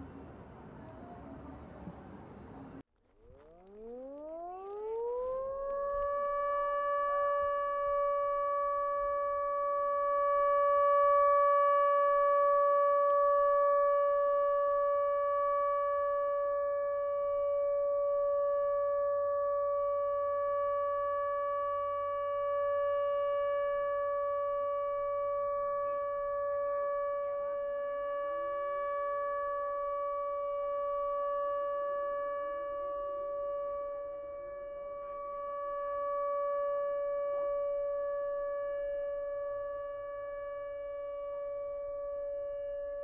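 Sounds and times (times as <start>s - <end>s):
siren steady tone: 3.2s - 43.0s
siren wails rising in pitch: 3.2s - 43.0s.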